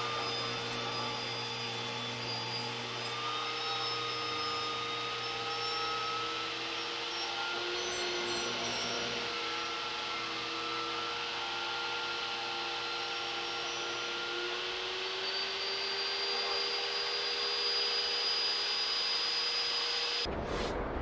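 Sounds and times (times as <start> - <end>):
shop vacuum running: 0.0 - 20.3
table saw cutting wood: 0.0 - 20.3.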